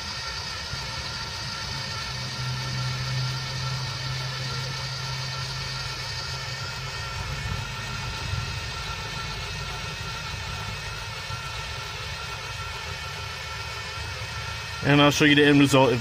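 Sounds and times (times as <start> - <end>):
electric drill boring through steel: 0.0 - 16.0.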